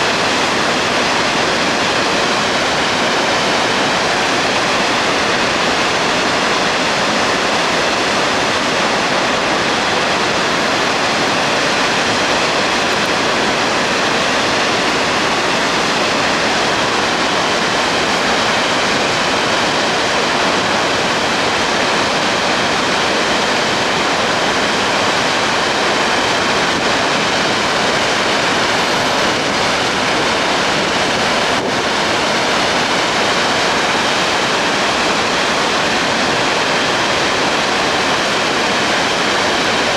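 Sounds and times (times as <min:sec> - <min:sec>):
water rushing from dam: 0:00.0 - 0:39.9.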